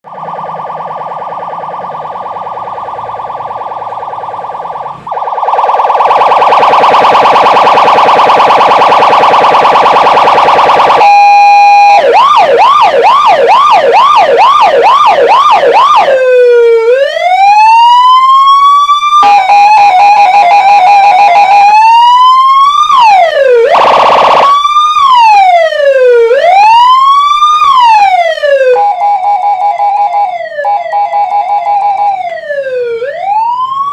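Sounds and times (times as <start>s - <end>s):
electronic siren through loudspeaker: 0.0s - 33.9s.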